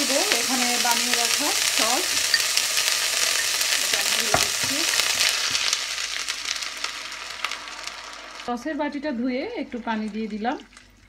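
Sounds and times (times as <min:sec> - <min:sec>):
garlic sizzling in butter: 0:00.0 - 0:11.0.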